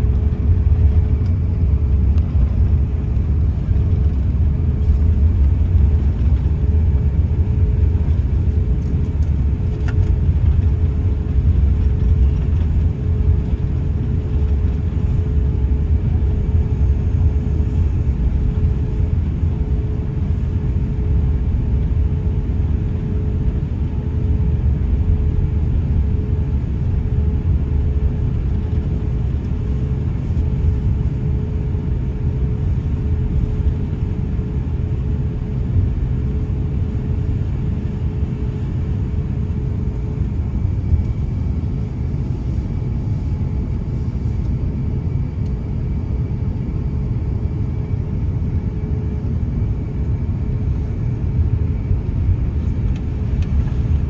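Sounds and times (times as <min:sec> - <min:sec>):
airliner cabin engine rumble: 0:00.0 - 0:54.0
faint steady hum: 0:00.0 - 0:54.0.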